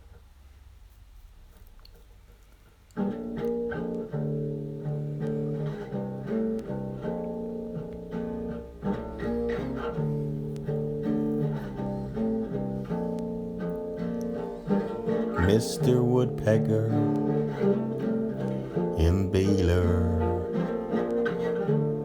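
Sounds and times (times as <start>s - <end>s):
plucked string music with bass: 3.0s - 22.0s.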